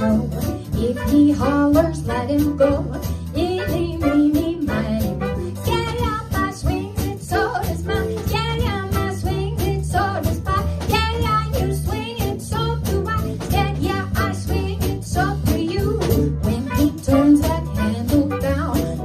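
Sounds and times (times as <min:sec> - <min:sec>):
swing jazz: 0:00.0 - 0:19.0.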